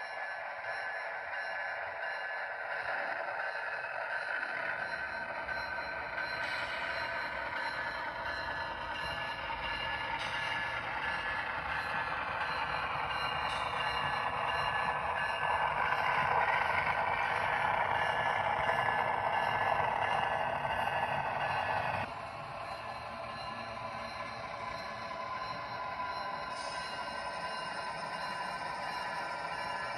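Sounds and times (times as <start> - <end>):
faint steady tones: 0.0 - 29.9
model train running noise: 0.0 - 29.9.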